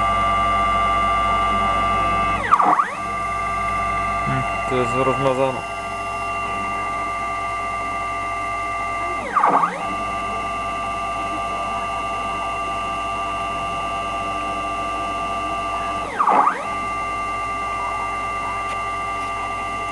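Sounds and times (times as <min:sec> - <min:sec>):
stepper motor whining: 0:02.2 - 0:19.9.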